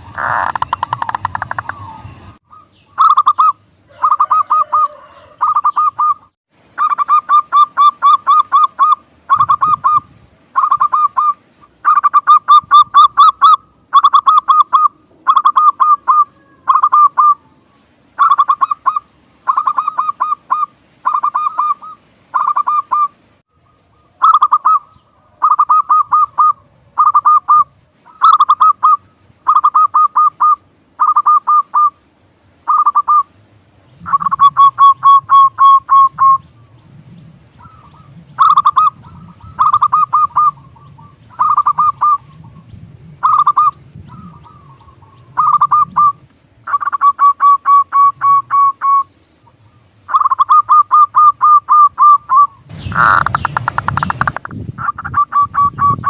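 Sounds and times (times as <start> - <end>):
dove cooing: 0.0 - 17.6, 18.2 - 23.2, 24.2 - 32.0, 32.7 - 33.3, 34.0 - 56.0.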